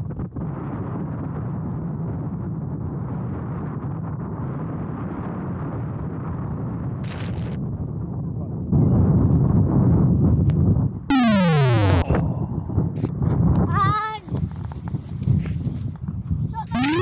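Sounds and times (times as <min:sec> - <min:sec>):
wind buffeting microphone: 0:00.0 - 0:11.1, 0:12.1 - 0:16.8.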